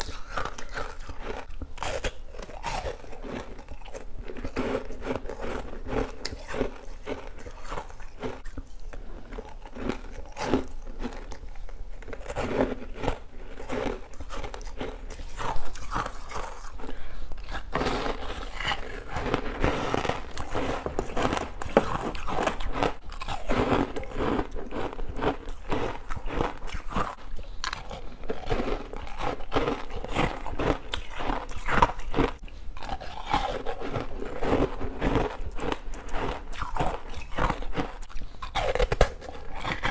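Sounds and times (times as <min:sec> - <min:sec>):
crisp chewing crunches: 0:00.0 - 0:39.9.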